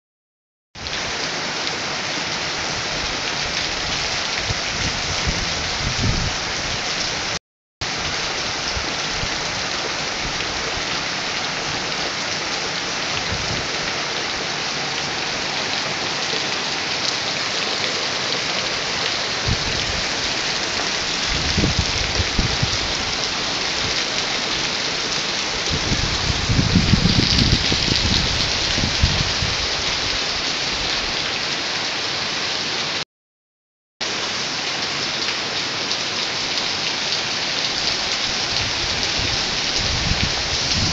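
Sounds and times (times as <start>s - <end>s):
heavy rain falling: 0.8s - 33.0s, 34.0s - 40.9s.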